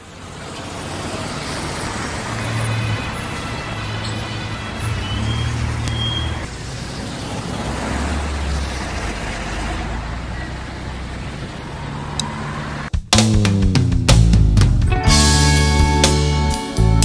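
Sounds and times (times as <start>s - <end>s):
highway traffic rushing: 0.0s - 16.8s.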